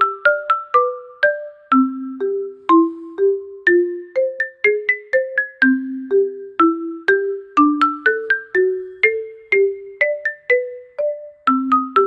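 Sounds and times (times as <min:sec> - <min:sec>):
light bouncy tune: 0:00.0 - 0:12.0.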